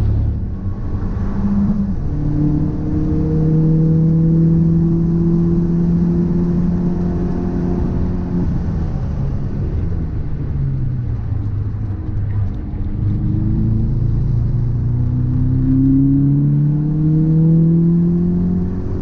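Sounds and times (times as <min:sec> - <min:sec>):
car droning hum: 0:00.0 - 0:19.0
road rumble: 0:00.0 - 0:19.0.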